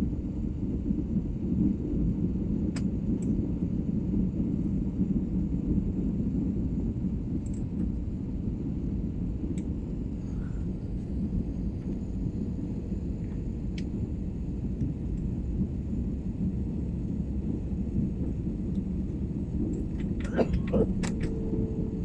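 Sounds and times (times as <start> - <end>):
airplane cabin rumble: 0.0 - 22.0
steady hum: 0.0 - 22.0.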